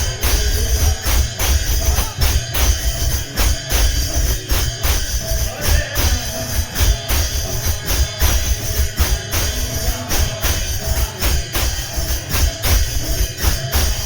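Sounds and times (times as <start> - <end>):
drum beat: 0.0 - 14.0
jingling metal hand cymbals: 0.0 - 14.0.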